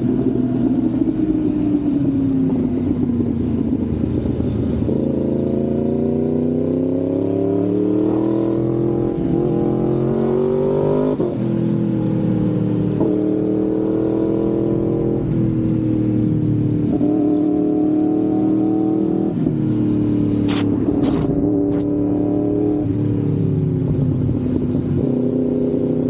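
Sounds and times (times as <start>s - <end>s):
motorcycle accelerating: 0.0s - 26.0s.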